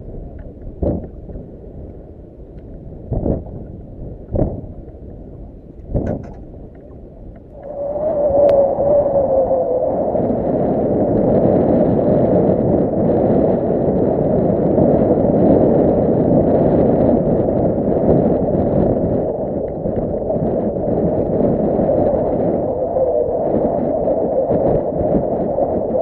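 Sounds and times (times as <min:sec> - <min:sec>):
water against hull: 0:00.0 - 0:26.0
wind on microphone: 0:00.0 - 0:26.0.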